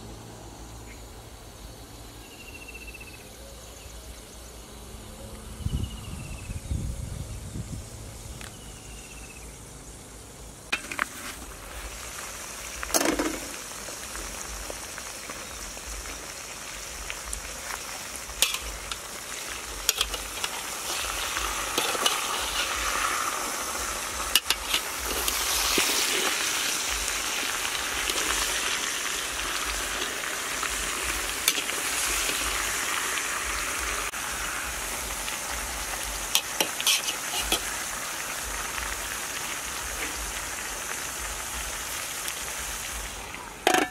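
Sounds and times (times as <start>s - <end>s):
food sizzling in a pot: 7.9s - 43.9s.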